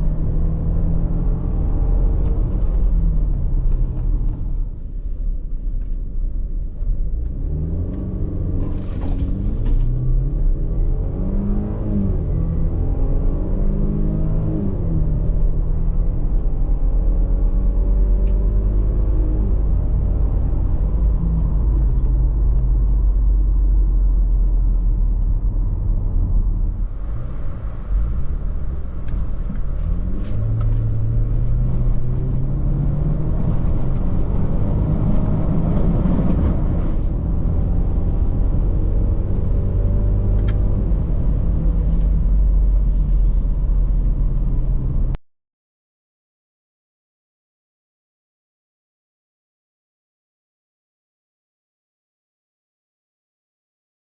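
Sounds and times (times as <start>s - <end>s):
car engine accelerating: 0.0s - 45.2s
low road rumble: 0.0s - 45.2s.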